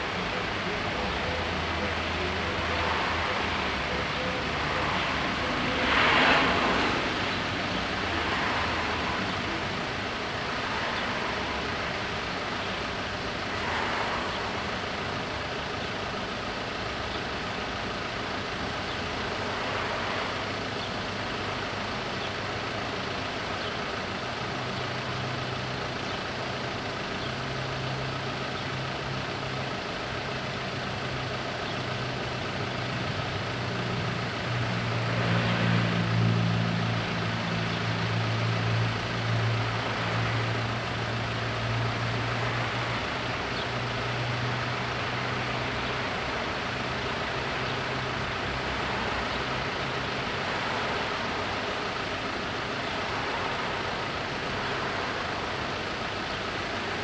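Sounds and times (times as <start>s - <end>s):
low engine hum: 0.0s - 57.0s
vehicles driving past: 0.0s - 57.0s.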